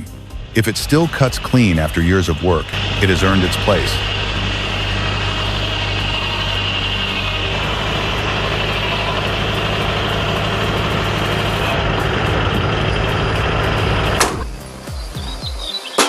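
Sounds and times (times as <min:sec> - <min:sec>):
belt-driven saw running: 0:00.4 - 0:14.5.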